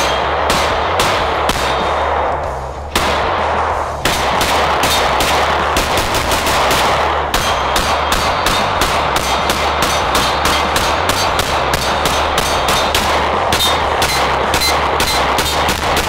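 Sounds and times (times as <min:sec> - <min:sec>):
pistol gunshots: 0:00.0 - 0:16.0.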